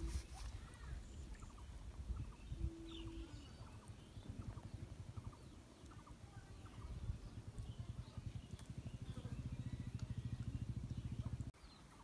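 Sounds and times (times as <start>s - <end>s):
wind rumble on microphone: 0.0s - 11.5s
bird chirps: 0.0s - 12.0s.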